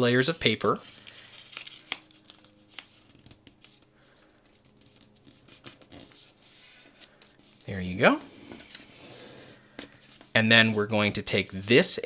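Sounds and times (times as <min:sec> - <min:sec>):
paper rustling and creasing: 0:00.2 - 0:12.0.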